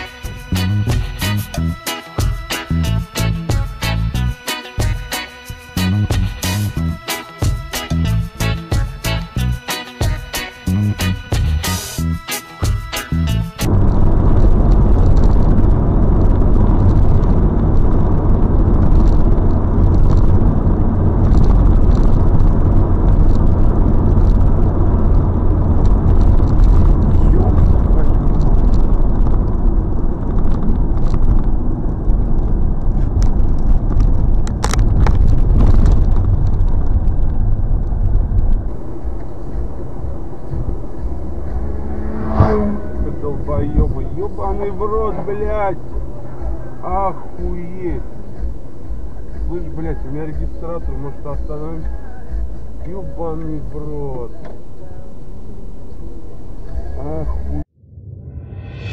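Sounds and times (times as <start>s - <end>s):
engine and tyre rumble: 0.0s - 58.0s
cabin and road noise: 0.0s - 58.9s.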